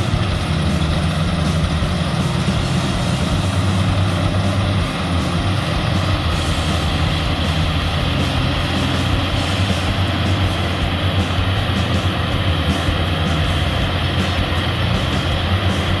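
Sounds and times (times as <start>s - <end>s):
combine harvester engine drone: 0.0s - 16.0s
threshing machinery clatter: 0.0s - 16.0s.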